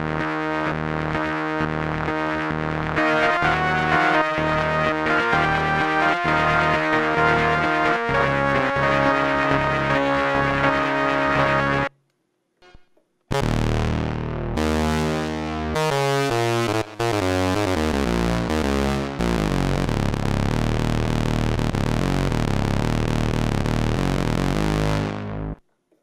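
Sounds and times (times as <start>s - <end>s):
synthesizer organ chords: 0.0s - 11.9s, 13.3s - 25.6s.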